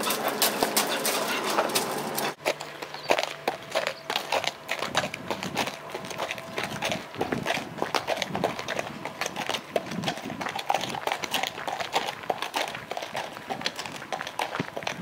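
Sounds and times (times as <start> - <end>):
boots crunching on gravel: 0.0 - 15.0
hooves crunching on gravel: 0.0 - 15.0.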